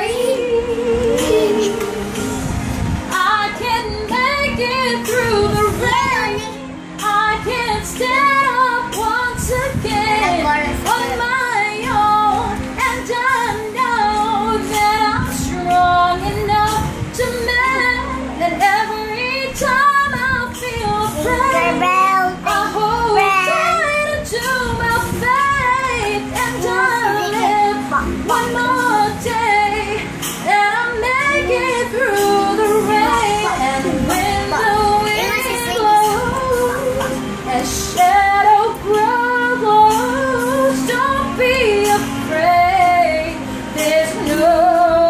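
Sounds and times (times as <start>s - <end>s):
backing music: 0.0s - 45.0s
woman singing a slow ballad: 0.0s - 45.0s.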